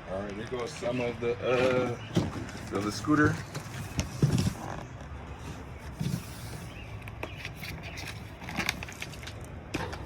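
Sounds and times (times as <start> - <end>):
cardboard rustling and scraping: 1.7 - 10.0.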